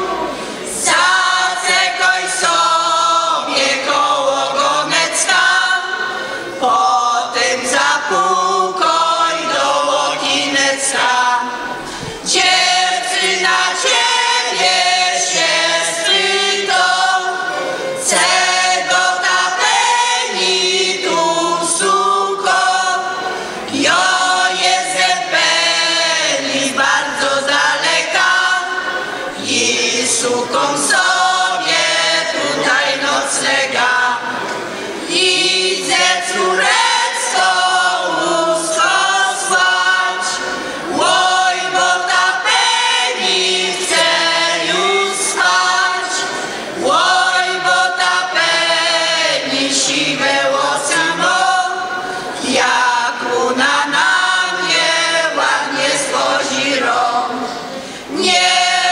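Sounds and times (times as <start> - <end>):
choir singing a cappella: 0.0 - 58.9.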